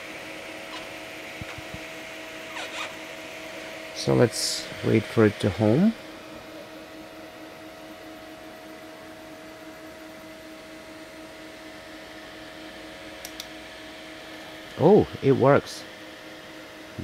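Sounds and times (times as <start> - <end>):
fan and motor hum and whir: 0.0 - 17.0.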